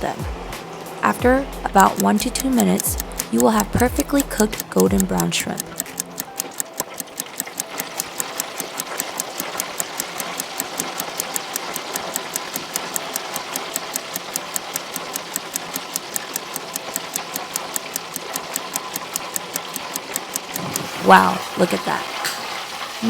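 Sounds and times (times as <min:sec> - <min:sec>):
fast even ticking: 0:00.0 - 0:22.2
shrimp deep-frying in oil: 0:00.0 - 0:23.0.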